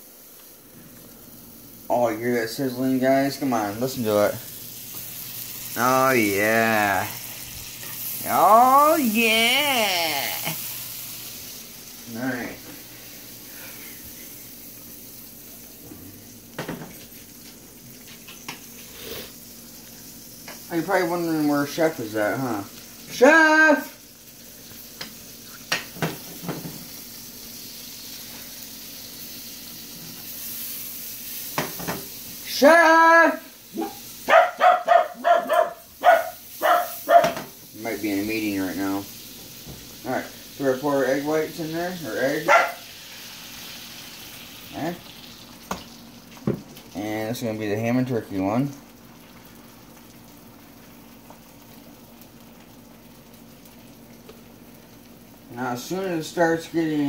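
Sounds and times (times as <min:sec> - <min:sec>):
butter sizzling in a skillet: 0:00.0 - 0:57.0.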